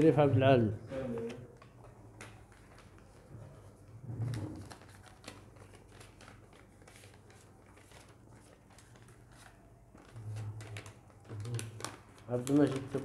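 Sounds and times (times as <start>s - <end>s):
paper rustling and crinkling: 1.0s - 13.0s.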